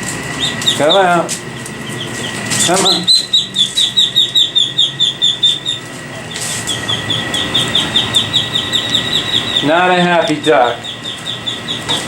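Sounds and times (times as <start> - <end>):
duckling peeping in distress: 0.3 - 12.0.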